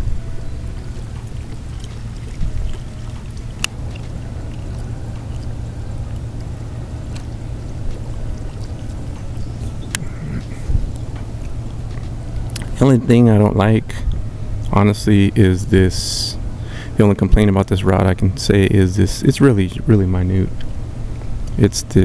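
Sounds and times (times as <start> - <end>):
water rumbling around kayak: 0.0 - 22.0.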